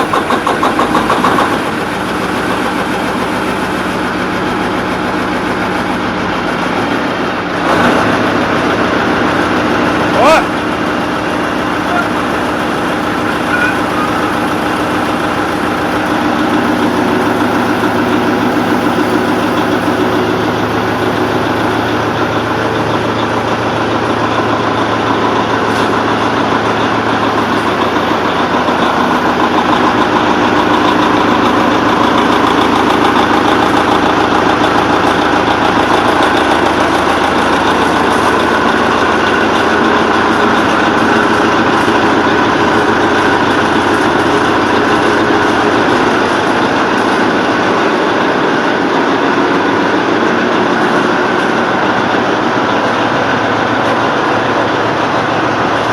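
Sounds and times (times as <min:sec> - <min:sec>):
diesel railcar engine knocking: 0:00.0 - 0:55.9.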